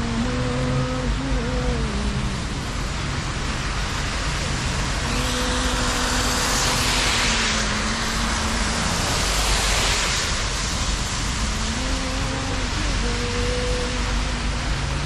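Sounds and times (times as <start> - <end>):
car tyres hissing on wet road: 0.0 - 15.0
heavy rain: 0.0 - 15.0.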